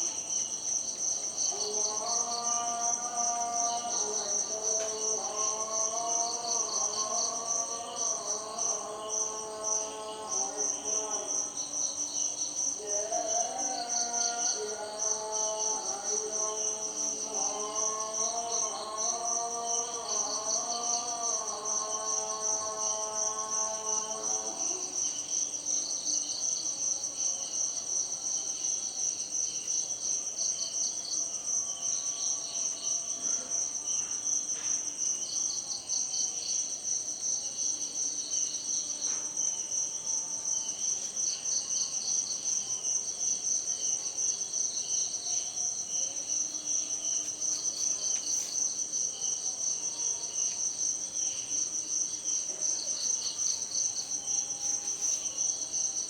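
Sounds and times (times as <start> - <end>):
high pulsing insect trill: 0.0 - 56.0
lower chirping insect trill: 0.0 - 56.0.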